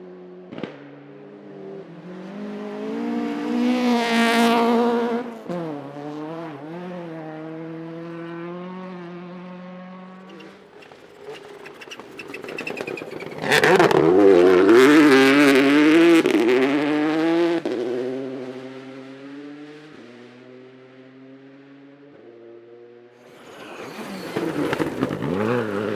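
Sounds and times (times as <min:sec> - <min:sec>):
rally car engines at full throttle: 0:00.0 - 0:25.9.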